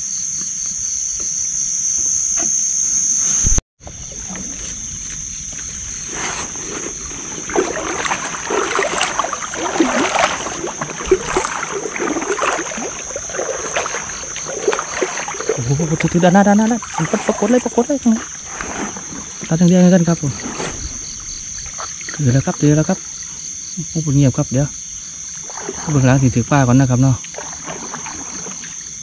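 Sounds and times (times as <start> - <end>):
night insects chirring: 0.0 - 29.0
water splashing and sloshing: 3.5 - 29.0.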